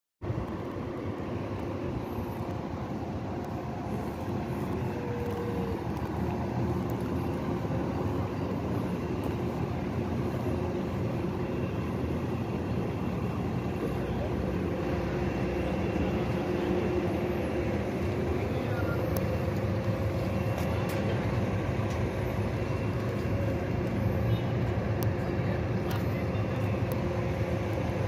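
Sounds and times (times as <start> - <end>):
road traffic hum: 0.2 - 28.0.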